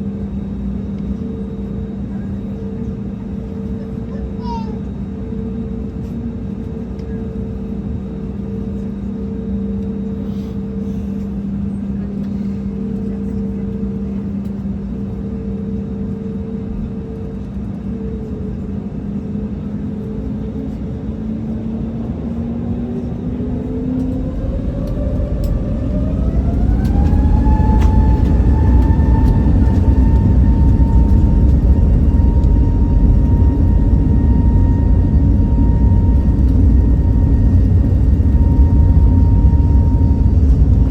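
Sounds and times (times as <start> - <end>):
jet engines from inside cabin: 0.0 - 40.9.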